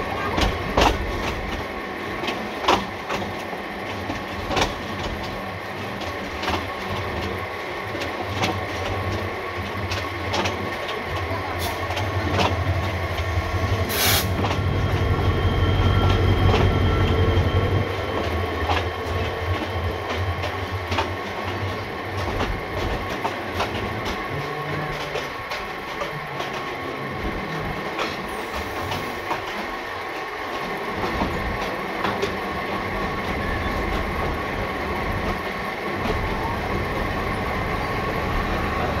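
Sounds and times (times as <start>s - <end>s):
train running noise: 0.0s - 39.0s
wheels clicking over rail joints: 0.1s - 15.1s, 16.0s - 39.0s.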